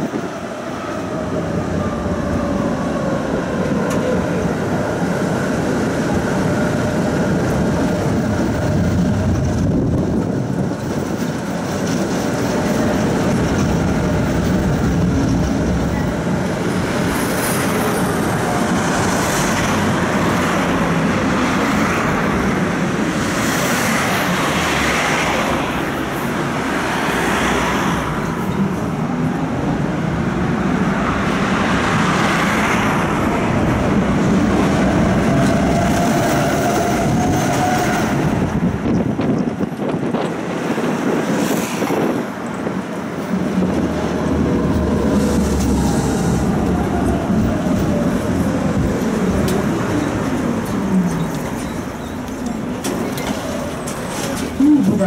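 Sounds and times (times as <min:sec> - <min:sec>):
tram wheels on rails: 0:00.0 - 0:55.0.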